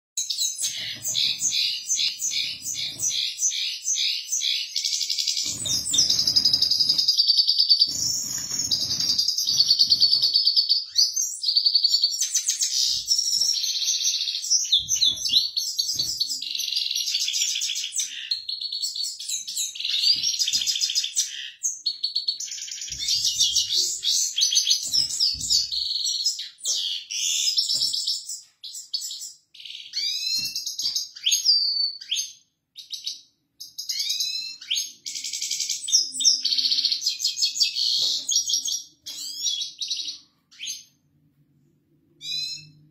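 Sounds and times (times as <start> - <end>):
goldfinch twittering song: 0.2 - 40.9.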